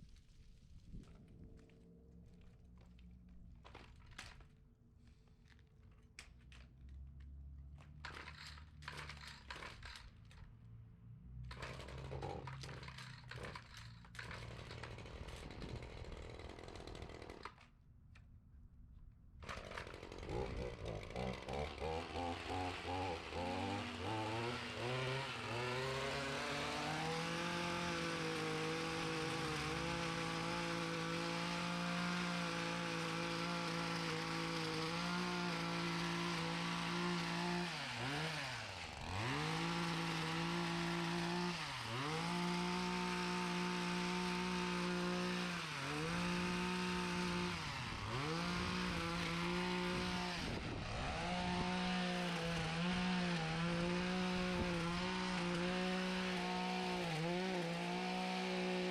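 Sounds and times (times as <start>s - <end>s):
small gasoline engine running: 8.0s - 10.1s, 11.5s - 17.6s, 19.4s - 58.9s.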